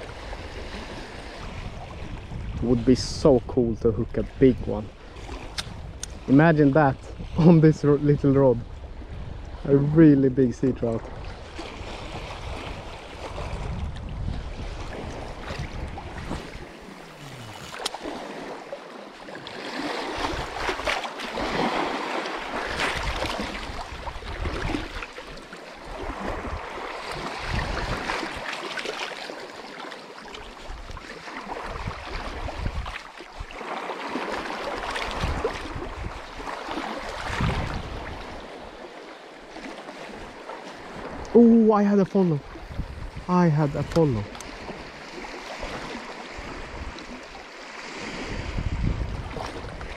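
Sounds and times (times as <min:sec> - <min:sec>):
wind rumbling on microphone: 0:00.0 - 0:18.6, 0:20.0 - 0:28.5, 0:30.5 - 0:33.6, 0:34.3 - 0:38.8, 0:42.3 - 0:49.9
waves on stony shore: 0:00.0 - 0:49.9.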